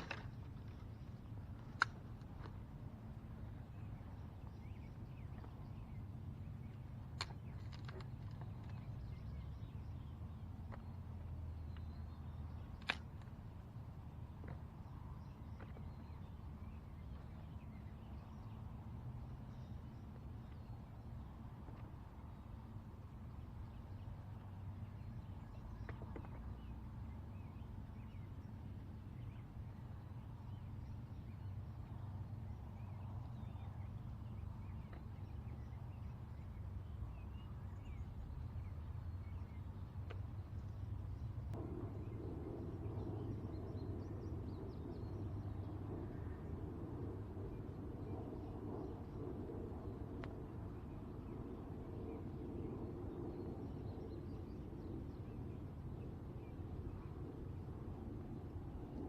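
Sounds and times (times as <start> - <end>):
steady low rumble: 0.0 - 59.0.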